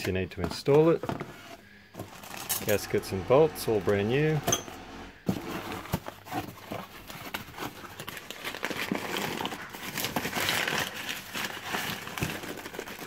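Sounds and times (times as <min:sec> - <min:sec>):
paper and foam rustling: 0:00.0 - 0:03.8, 0:05.2 - 0:13.0.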